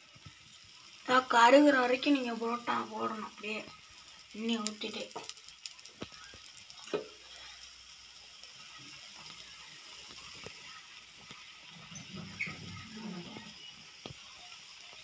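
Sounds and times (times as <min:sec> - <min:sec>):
bread sizzling in oil: 0:00.0 - 0:15.0.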